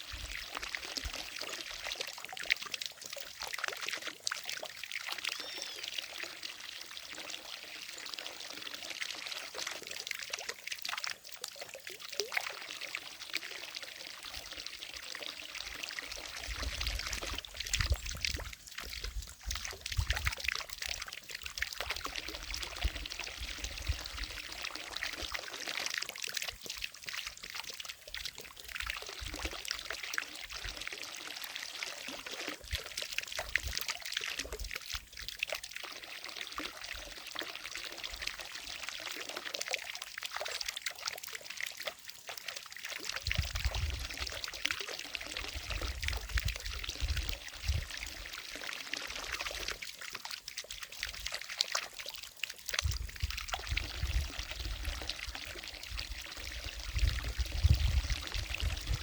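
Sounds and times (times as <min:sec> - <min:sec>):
fountain water splashing into lake: 0:00.0 - 0:59.0.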